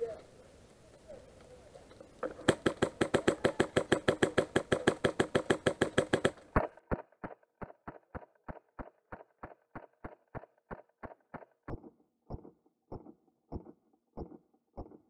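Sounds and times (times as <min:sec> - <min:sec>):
airsoft rifle rapid fire: 0:02.2 - 0:15.0.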